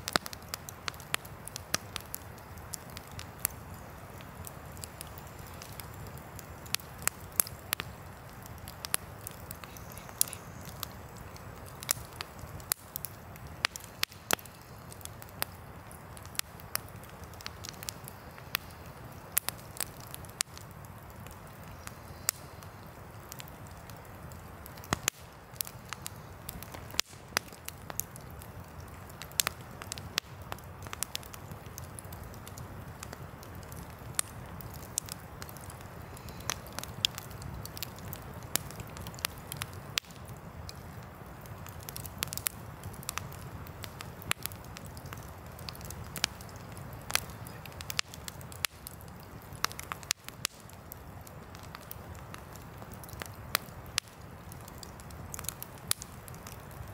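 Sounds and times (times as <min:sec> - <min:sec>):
campfire crackling: 0:00.0 - 0:56.9
low fire rumble: 0:00.0 - 0:56.9
sharp pops from burning logs: 0:00.0 - 0:56.9.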